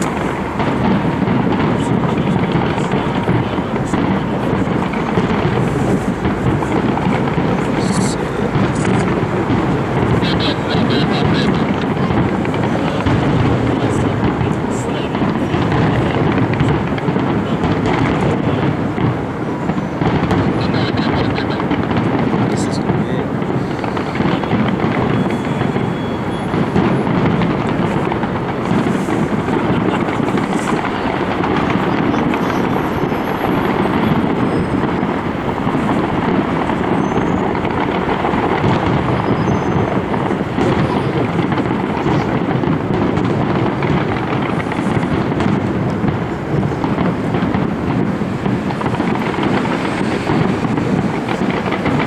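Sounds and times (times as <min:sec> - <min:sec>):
distant fireworks: 0:00.0 - 0:52.0.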